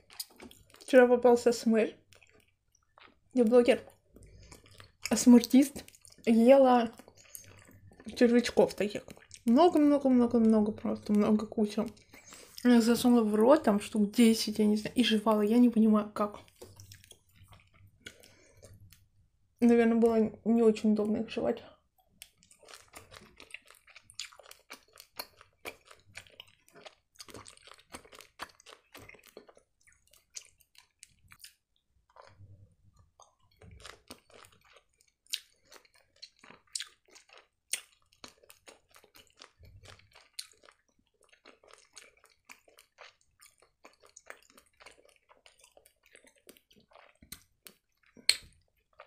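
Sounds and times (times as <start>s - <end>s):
close-miked chewing: 0.0s - 13.9s, 15.2s - 19.1s, 22.0s - 49.0s.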